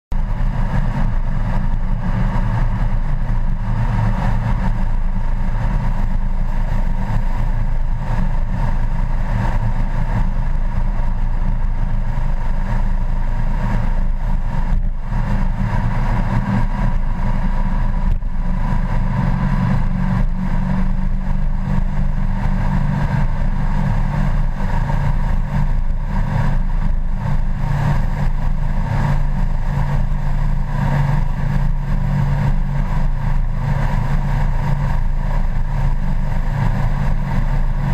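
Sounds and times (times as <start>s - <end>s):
wind and road noise: 0.1s - 37.9s.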